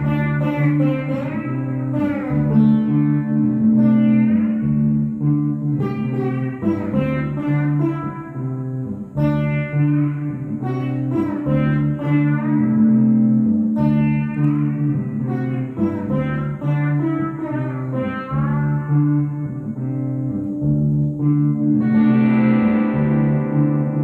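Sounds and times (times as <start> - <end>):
pedal steel guitar playing: 0.0 - 24.0.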